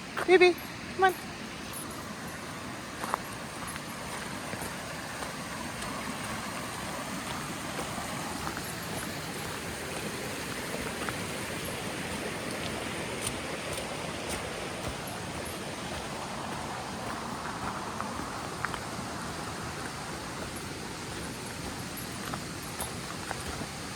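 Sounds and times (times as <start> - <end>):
creek and waterfall rushing: 0.0 - 23.9.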